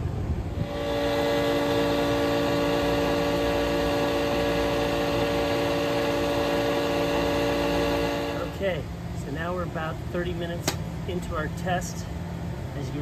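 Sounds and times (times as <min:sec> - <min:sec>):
electric motor and pump humming: 0:00.0 - 0:13.0.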